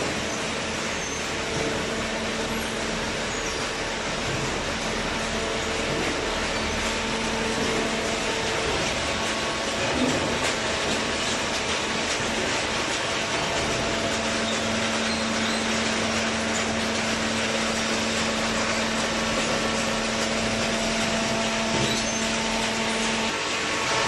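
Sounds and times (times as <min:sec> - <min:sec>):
cardboard baler running: 0:00.0 - 0:24.0.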